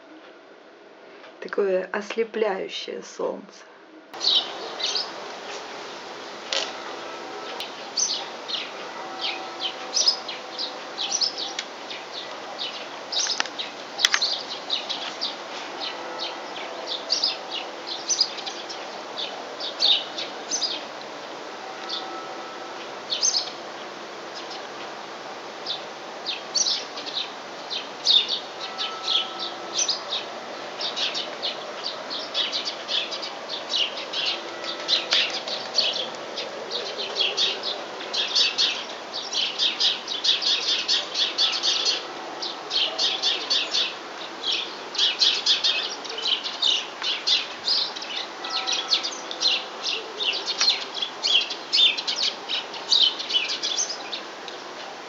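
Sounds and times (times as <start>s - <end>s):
birds chirping: 4.2s - 54.8s.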